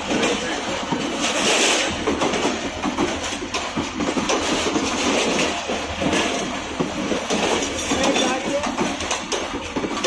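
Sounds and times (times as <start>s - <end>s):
clacks over rail joints: 0.0s - 10.0s
train wheels rumbling on rails: 0.0s - 10.0s.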